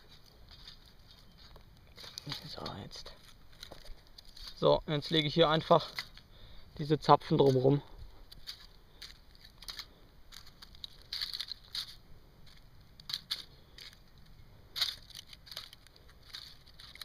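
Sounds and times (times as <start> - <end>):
pine cones crackling and scraping: 0.0 - 17.0.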